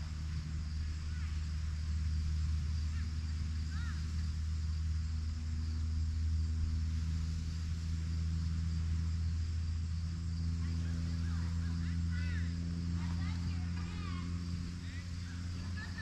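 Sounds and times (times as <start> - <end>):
engine drone: 0.0 - 16.0
insects chirring: 0.0 - 16.0.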